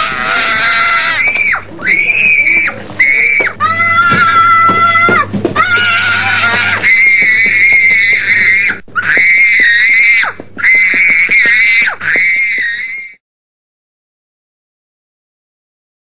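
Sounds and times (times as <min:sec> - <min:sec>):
small child screaming: 0:00.0 - 0:13.2.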